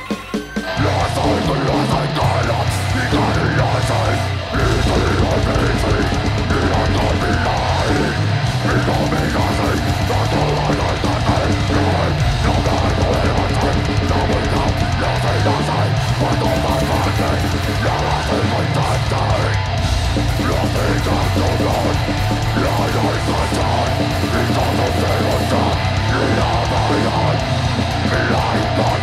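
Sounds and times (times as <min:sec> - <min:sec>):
live heavy metal band: 0:00.0 - 0:29.0.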